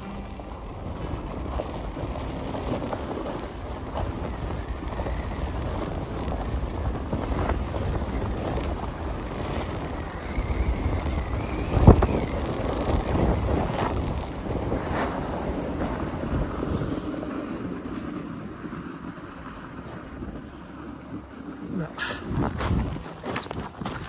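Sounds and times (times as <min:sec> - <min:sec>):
sliding over snow: 0:00.0 - 0:24.0
wind on microphone: 0:00.0 - 0:24.0.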